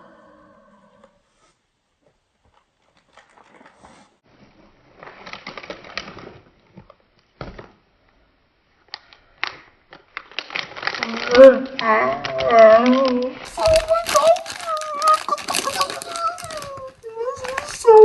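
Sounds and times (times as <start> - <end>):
plastic packaging crinkling: 2.5 - 7.9, 8.8 - 18.0.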